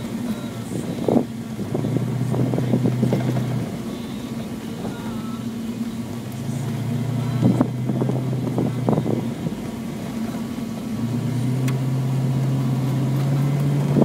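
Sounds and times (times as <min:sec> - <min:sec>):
car knocking and rattling: 0:00.0 - 0:14.0
rally car engine: 0:00.0 - 0:14.0.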